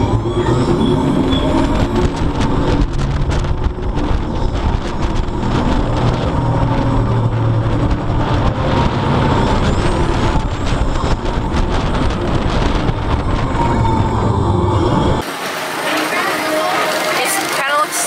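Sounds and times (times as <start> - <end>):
roller coaster rushing on track: 0.0 - 18.0.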